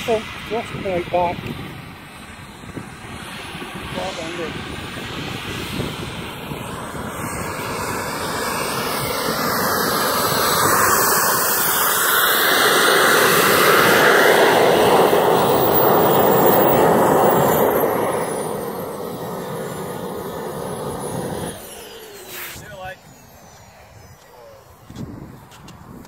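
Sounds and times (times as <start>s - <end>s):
model jet engine rushing: 0.0s - 26.0s.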